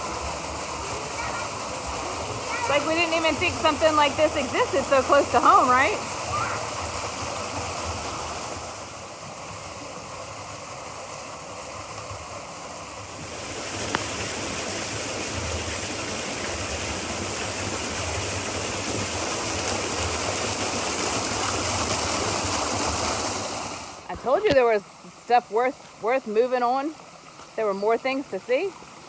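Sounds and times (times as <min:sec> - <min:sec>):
water rushing over rocks: 0:00.0 - 0:29.0.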